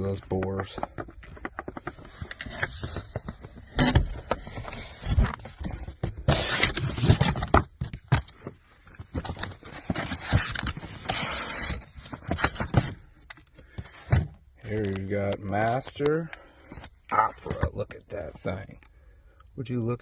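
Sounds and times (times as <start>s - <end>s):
handling rustling and scraping: 0.0s - 18.7s.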